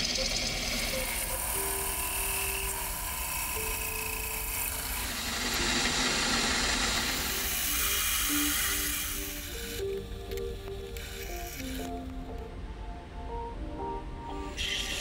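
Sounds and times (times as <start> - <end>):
milling machine cutting metal: 0.0 - 12.0, 14.5 - 15.0.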